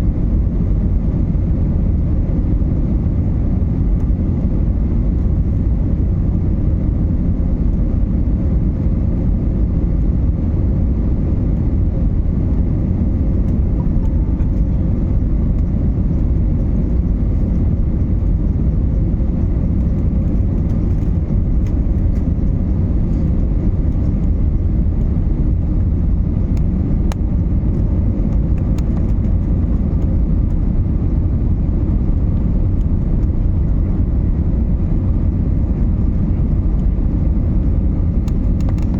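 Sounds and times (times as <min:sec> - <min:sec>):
airliner cabin low rumble: 0:00.0 - 0:38.9
faint steady hum: 0:00.0 - 0:38.9.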